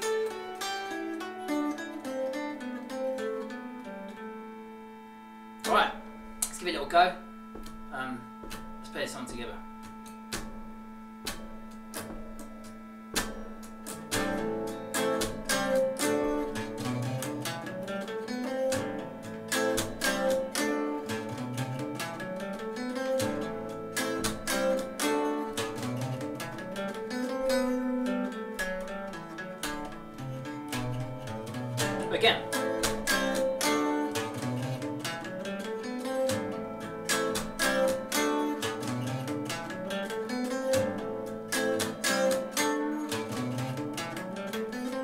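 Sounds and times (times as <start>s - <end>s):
steady drone note: 2.6s - 44.5s
backing beat: 5.6s - 44.9s.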